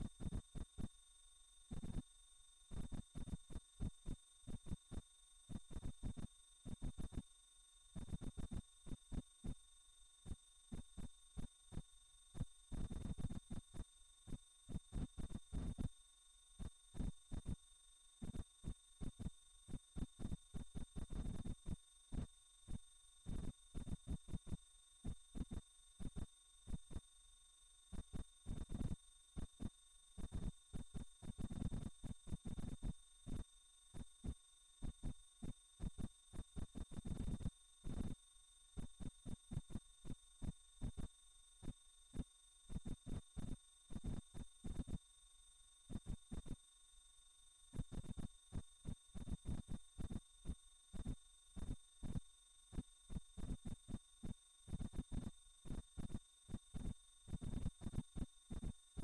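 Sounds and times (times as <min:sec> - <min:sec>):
high-pitched pulsing sine tone: 0:00.0 - 0:59.0.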